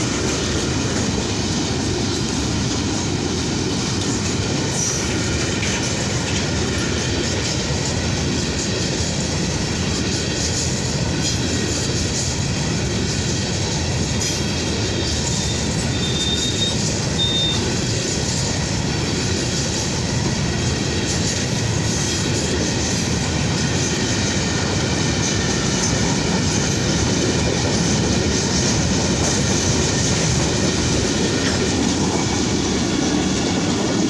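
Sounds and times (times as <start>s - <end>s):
freight train wagons rolling past: 0.0s - 34.0s.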